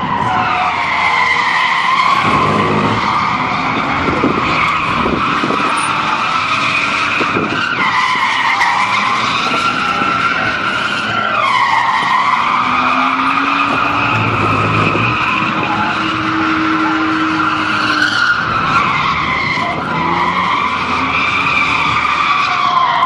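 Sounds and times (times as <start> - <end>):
car engine running hard: 0.0 - 23.0
car tyres squealing: 0.0 - 23.0.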